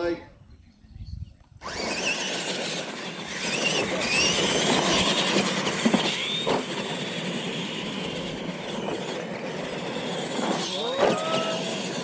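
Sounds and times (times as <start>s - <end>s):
electric motors whining: 1.6s - 12.0s
tyres on loose dirt: 1.6s - 12.0s.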